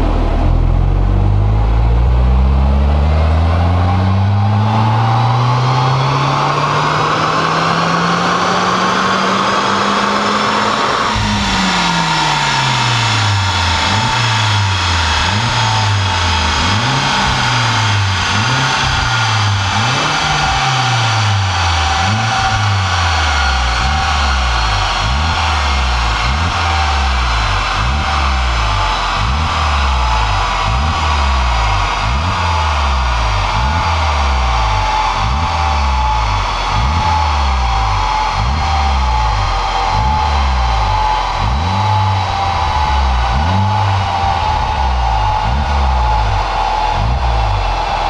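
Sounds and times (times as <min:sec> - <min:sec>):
car engine revving: 0:00.0 - 0:48.0
engine rev blips: 0:00.0 - 0:48.0.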